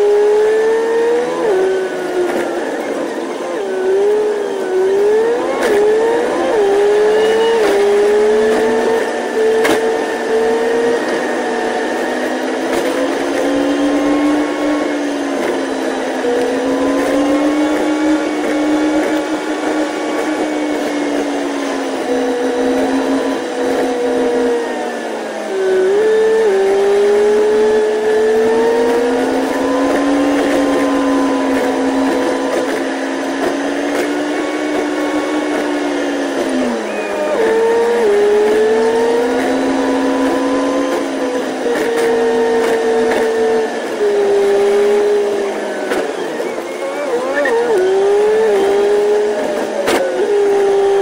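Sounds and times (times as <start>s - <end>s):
sped-up bus engine whirring hum: 0.0s - 51.0s.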